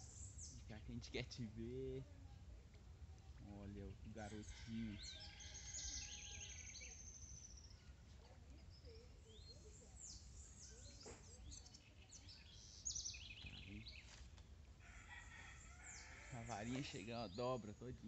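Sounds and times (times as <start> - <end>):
faint songbirds chirping: 0.0 - 18.0
low steady background hum: 0.0 - 18.0.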